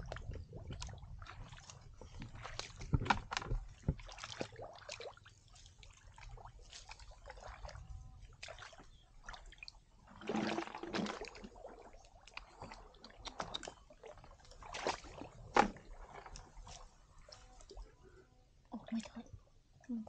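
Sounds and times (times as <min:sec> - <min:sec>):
legs wading through water: 0:00.0 - 0:19.4
muddy water sloshing and splashing: 0:00.0 - 0:20.0.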